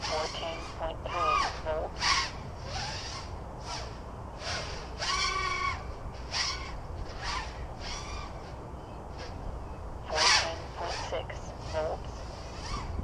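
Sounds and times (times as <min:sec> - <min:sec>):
low wind rumble on microphone: 0:00.0 - 0:13.0.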